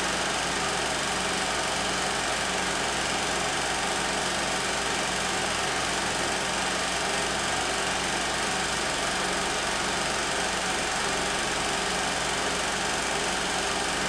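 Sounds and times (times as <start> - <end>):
film projector whirring and clattering: 0.0 - 14.0.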